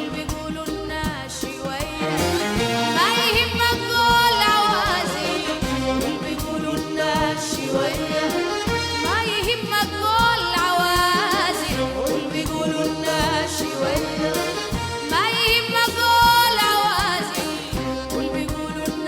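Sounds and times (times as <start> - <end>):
folk-style song with beat: 0.0 - 19.0.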